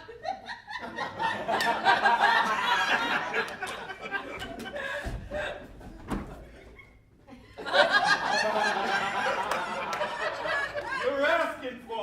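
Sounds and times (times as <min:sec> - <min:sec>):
audience laughing: 0:00.0 - 0:11.7.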